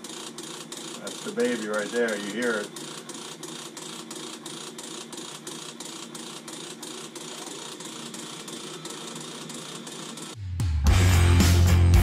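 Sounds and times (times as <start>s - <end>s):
boiler running with mechanical rattle: 0.0s - 10.4s.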